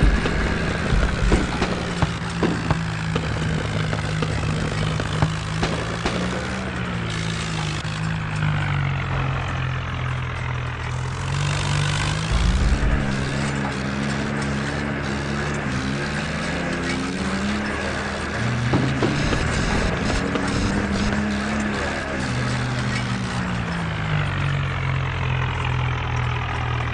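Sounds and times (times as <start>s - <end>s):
tractor diesel engine revving: 0.0s - 26.9s.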